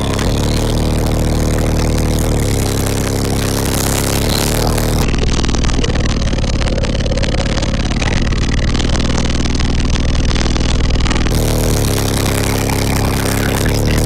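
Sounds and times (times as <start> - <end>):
loud bass-heavy music: 0.0 - 14.0.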